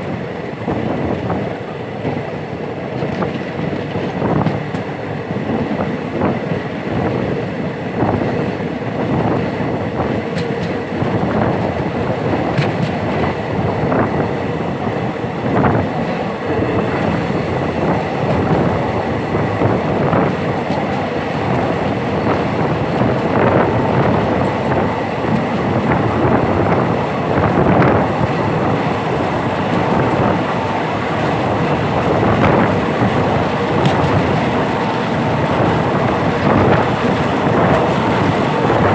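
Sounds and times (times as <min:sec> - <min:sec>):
train rumbling on track: 0:00.0 - 0:38.9.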